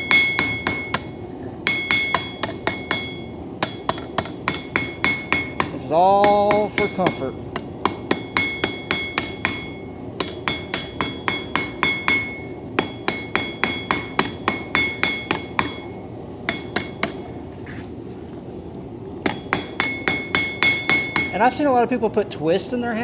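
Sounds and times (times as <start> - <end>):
hammer striking steel on anvil: 0.0 - 17.4, 19.3 - 21.6.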